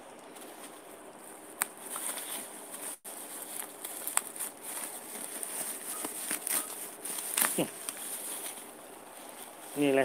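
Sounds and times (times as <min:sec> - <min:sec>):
bubble wrap crinkling: 0:00.2 - 0:10.0.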